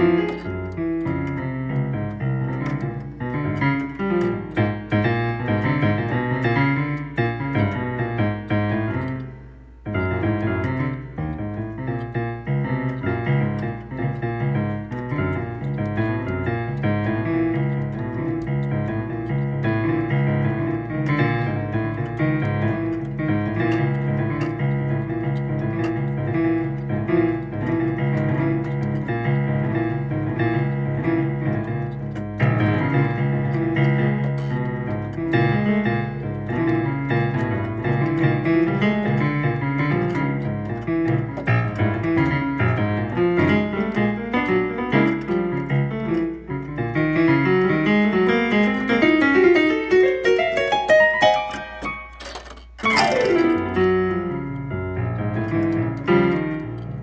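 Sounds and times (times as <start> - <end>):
piano keyboard playing chords: 0.0 - 57.0.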